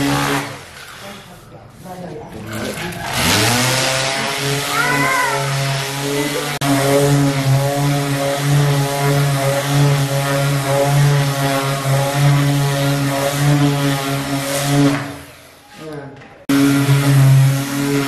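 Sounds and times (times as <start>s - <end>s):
orbital sander on wood: 0.0s - 0.7s, 3.0s - 15.4s, 16.5s - 18.0s.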